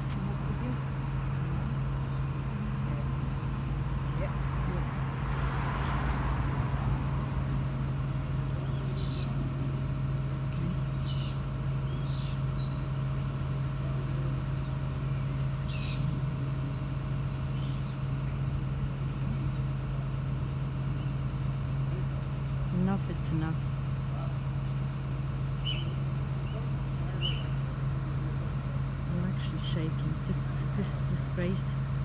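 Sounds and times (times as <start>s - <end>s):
birds chirping: 0.0s - 32.0s
low engine hum: 0.0s - 32.0s.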